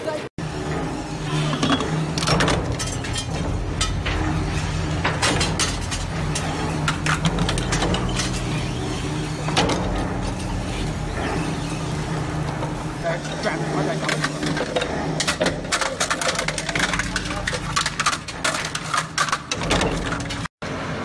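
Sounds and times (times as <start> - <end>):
crusher machine droning: 0.1 - 21.0.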